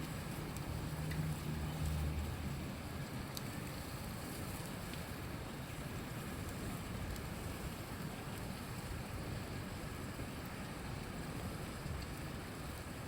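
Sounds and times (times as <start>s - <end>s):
campfire crackling: 0.0s - 13.0s
river rushing: 0.0s - 13.0s.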